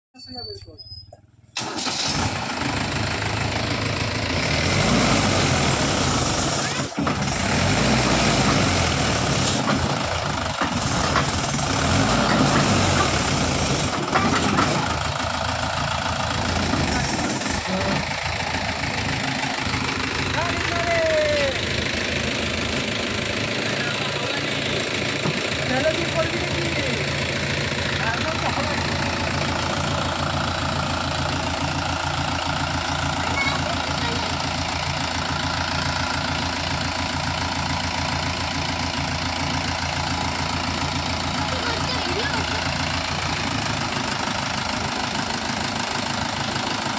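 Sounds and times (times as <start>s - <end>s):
tractor diesel engine under load: 0.3s - 46.9s.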